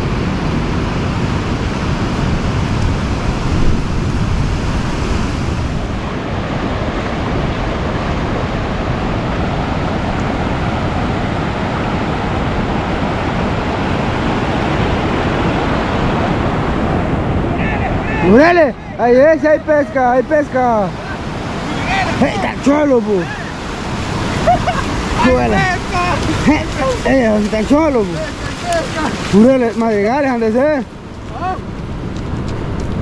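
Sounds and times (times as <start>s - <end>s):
wind on microphone: 0.0s - 19.7s, 20.8s - 30.3s
ocean surf breaking: 0.0s - 33.0s.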